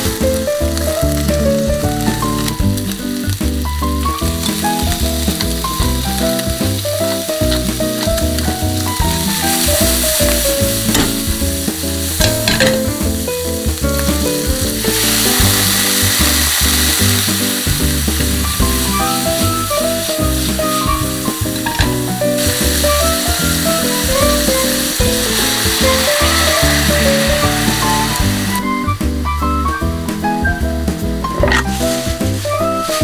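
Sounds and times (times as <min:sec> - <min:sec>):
background music with bass line: 0:00.0 - 0:33.0
food sizzling in a pan: 0:00.0 - 0:33.0.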